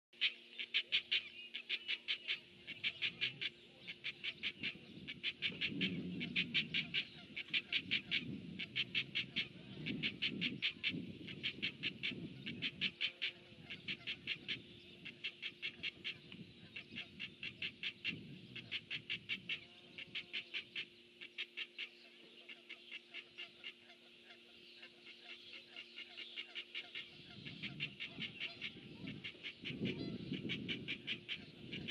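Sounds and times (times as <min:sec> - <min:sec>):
animal calling in pulsed trills: 0:00.2 - 0:31.9.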